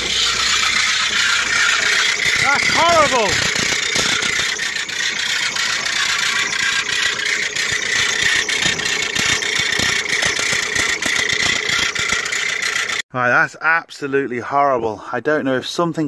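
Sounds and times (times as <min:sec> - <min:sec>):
car engine idling: 0:00.0 - 0:13.0
high-pitched belt squeal: 0:00.0 - 0:13.0.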